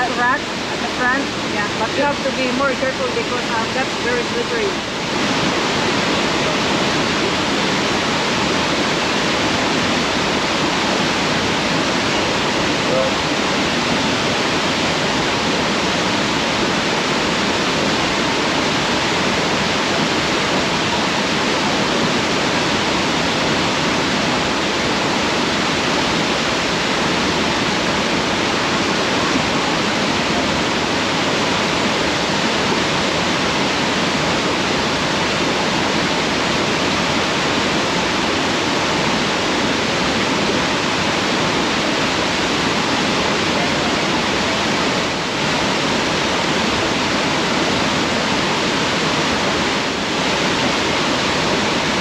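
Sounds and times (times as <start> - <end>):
waterfall rushing into pool: 0.0 - 52.0.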